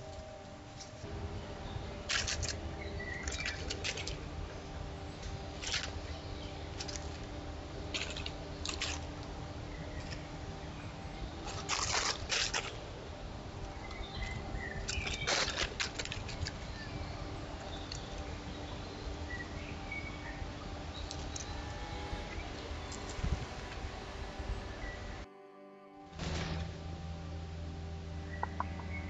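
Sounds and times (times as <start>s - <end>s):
low hiss and hum: 0.0s - 29.0s.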